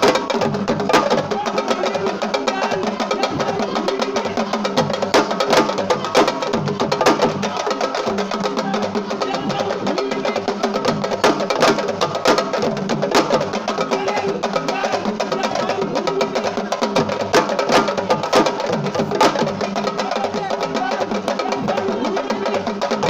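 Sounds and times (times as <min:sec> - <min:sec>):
crowd singing and shouting: 0:00.0 - 0:23.0
hand drum rhythm: 0:00.0 - 0:23.0.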